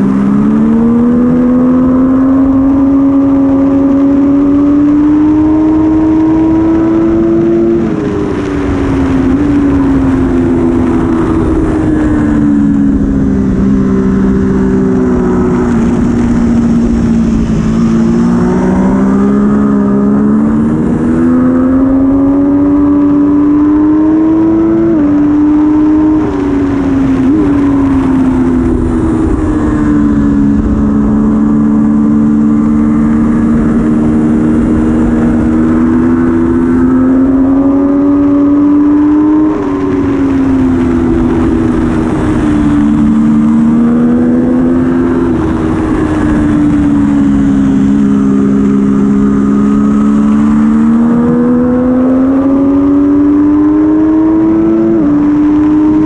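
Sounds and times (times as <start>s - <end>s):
motorcycle engine running hard: 0.0s - 56.0s
wind noise: 0.0s - 56.0s.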